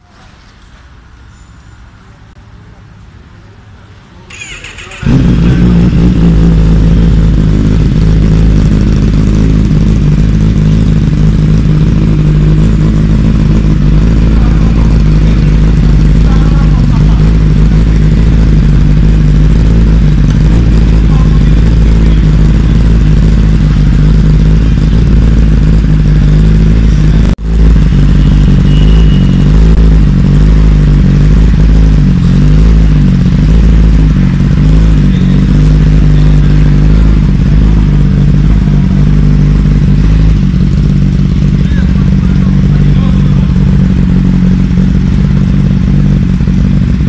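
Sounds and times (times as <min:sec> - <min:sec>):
motorcycle engine idling: 0:04.3 - 0:47.0.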